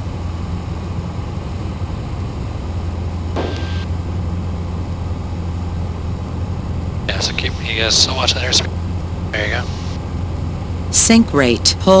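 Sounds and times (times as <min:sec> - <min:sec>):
airplane engine drone in cabin: 0:00.0 - 0:12.0.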